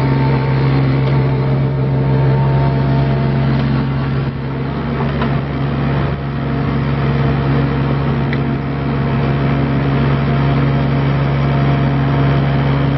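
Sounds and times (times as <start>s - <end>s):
mini excavator diesel engine running: 0.0s - 12.9s.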